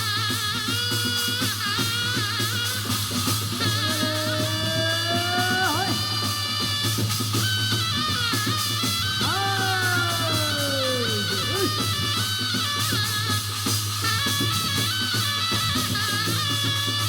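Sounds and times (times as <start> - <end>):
dense drumming and percussion: 0.0 - 17.0.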